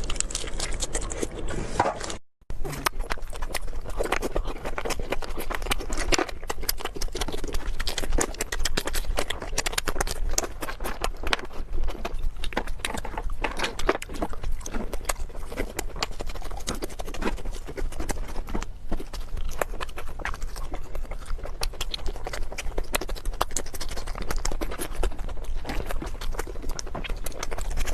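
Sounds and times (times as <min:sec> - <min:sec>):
person chewing: 0:00.0 - 0:27.9.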